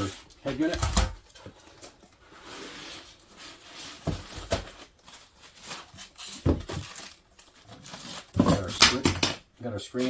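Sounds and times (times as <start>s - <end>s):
cardboard and foam rustling: 0.0s - 8.8s.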